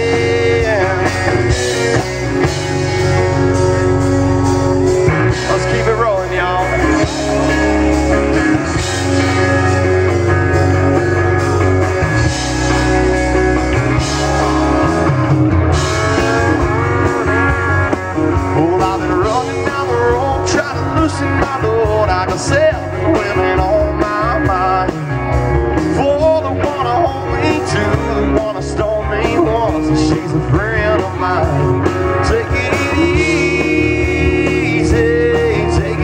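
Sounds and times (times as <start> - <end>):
drums: 0.0 - 36.0
electric bass: 0.0 - 36.0
guitars: 0.0 - 36.0.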